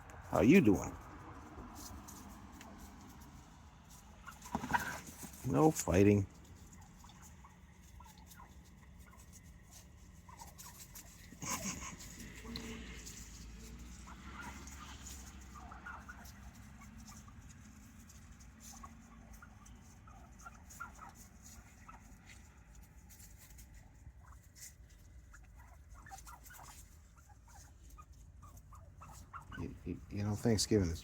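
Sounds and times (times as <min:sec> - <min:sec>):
turkeys peeping and clucking: 0:00.0 - 0:31.0.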